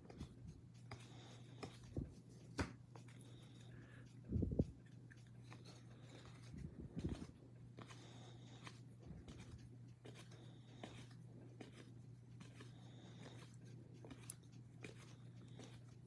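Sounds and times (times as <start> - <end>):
cards sliding and tapping: 0.1 - 3.2, 5.2 - 15.8.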